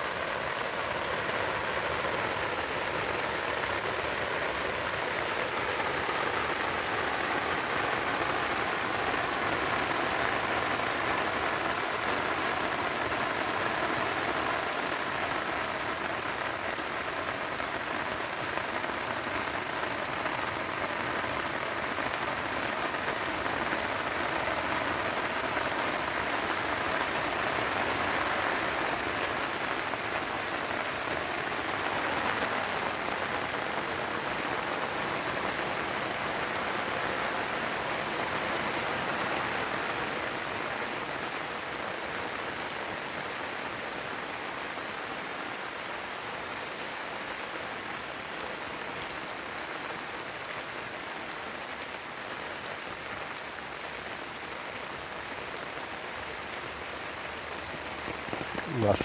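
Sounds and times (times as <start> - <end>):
light rain on vegetation: 0.0 - 59.0.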